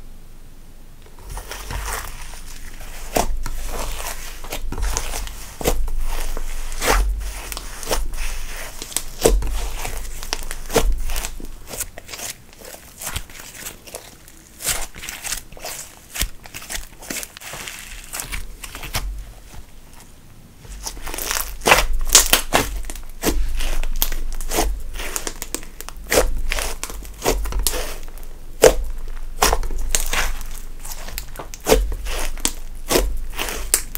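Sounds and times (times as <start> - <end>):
slime crackling and popping: 1.0 - 19.6, 20.7 - 33.9.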